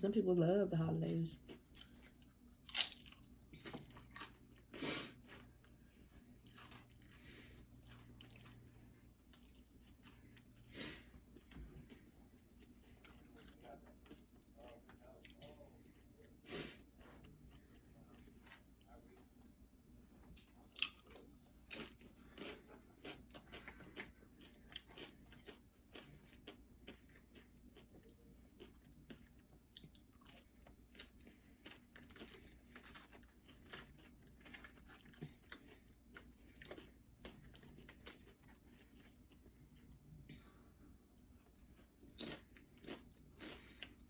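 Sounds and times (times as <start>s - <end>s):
person chewing crunchy chips: 1.4s - 19.2s, 20.2s - 40.6s, 41.2s - 44.0s.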